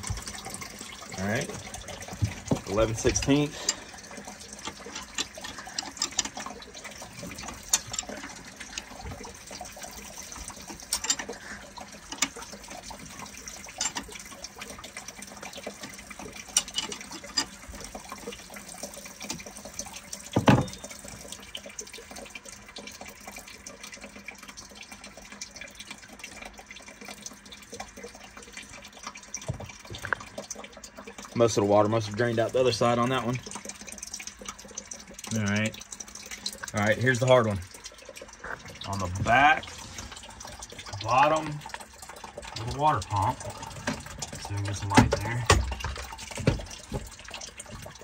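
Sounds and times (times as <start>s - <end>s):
water trickling: 0.0s - 48.0s.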